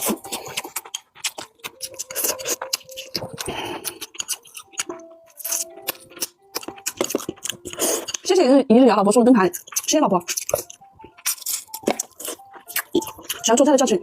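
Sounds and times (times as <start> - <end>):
wet chewing and lip smacks: 0.0 - 8.3, 9.5 - 13.6.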